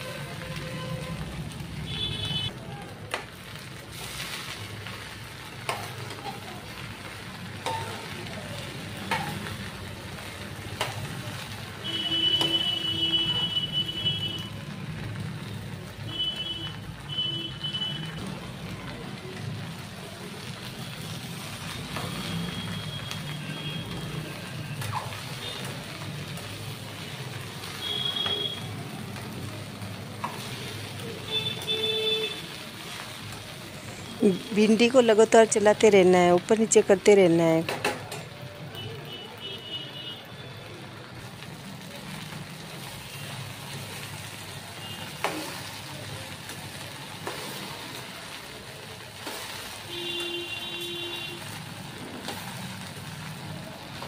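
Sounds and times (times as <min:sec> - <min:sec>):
okra sizzling in a pan: 0:00.0 - 0:54.0.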